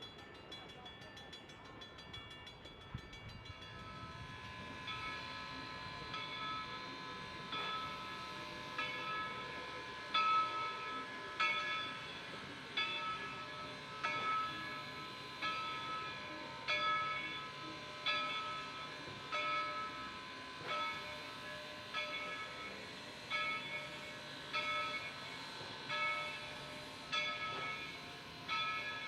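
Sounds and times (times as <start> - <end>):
locomotive bell ringing: 0.0 - 29.0
train running noise: 0.0 - 29.0.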